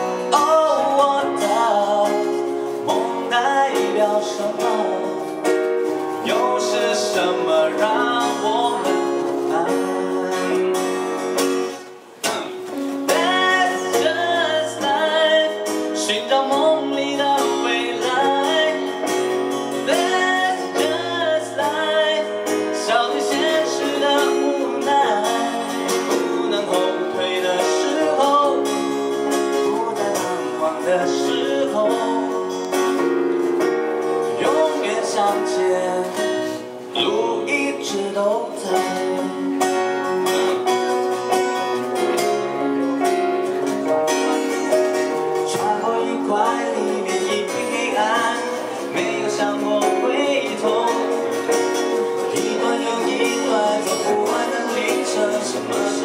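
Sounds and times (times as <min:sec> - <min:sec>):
guitar and keyboard accompaniment: 0:00.0 - 0:56.0
man singing: 0:00.0 - 0:56.0.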